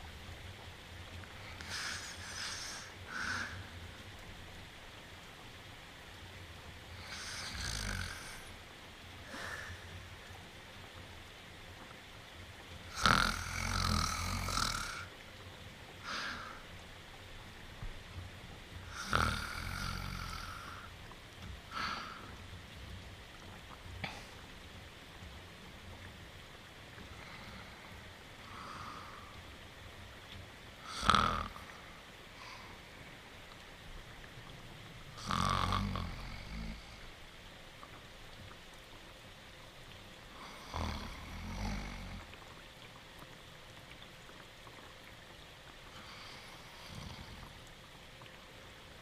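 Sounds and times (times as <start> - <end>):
falling rain: 0.0 - 49.0.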